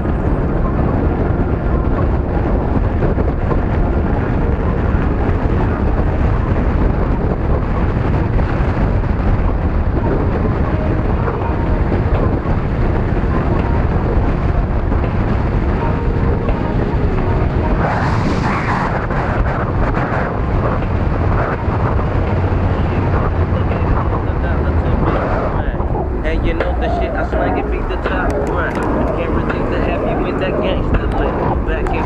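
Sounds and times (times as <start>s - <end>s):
road noise: 0.0s - 32.0s
wind buffeting microphone: 0.0s - 32.0s.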